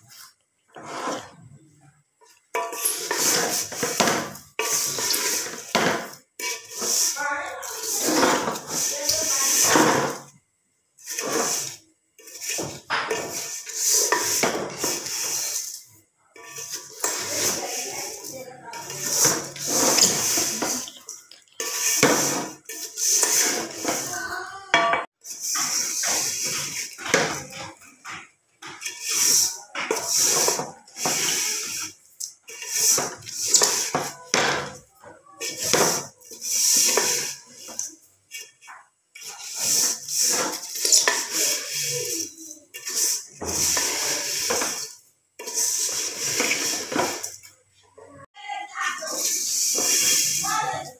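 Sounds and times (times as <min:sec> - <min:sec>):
wooden spatula scraping metal pot: 0:00.0 - 0:01.6, 0:02.2 - 0:10.4, 0:11.0 - 0:50.9
dry noodles tossing: 0:02.6 - 0:10.3, 0:11.0 - 0:15.8, 0:16.4 - 0:24.6, 0:25.2 - 0:34.4, 0:35.4 - 0:47.4, 0:48.9 - 0:50.9.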